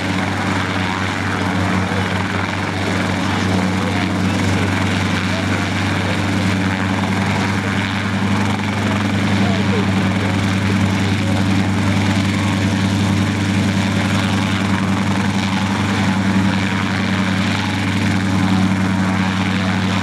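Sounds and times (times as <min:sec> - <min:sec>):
helicopter hovering: 0:00.0 - 0:20.0.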